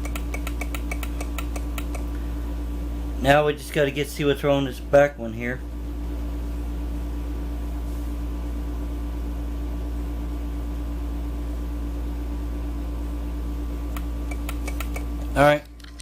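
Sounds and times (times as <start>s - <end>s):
steady low hum with tone: 0.0s - 16.0s.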